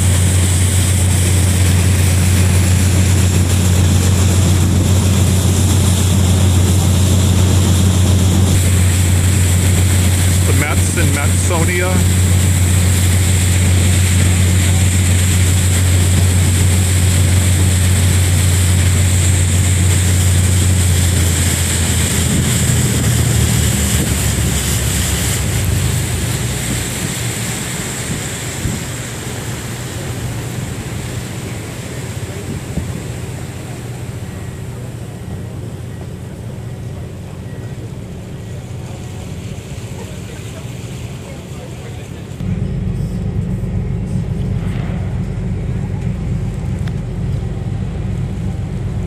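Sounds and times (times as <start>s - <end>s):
ferry engines droning: 0.0s - 49.0s
water noise: 0.0s - 49.0s
wind: 0.0s - 49.0s.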